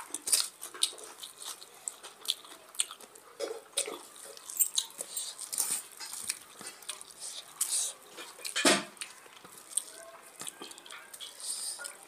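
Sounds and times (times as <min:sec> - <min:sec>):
people chewing with mouth smacks: 0:00.0 - 0:12.0.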